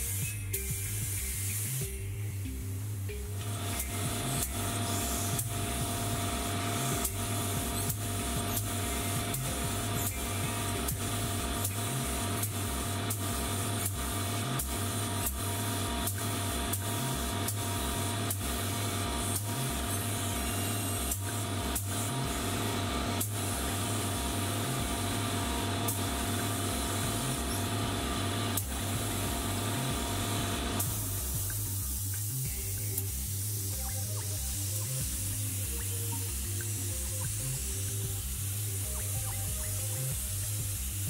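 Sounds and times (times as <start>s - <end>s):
spray gun hissing: 0.0s - 1.9s, 3.4s - 41.0s
background music with beat: 0.0s - 41.0s.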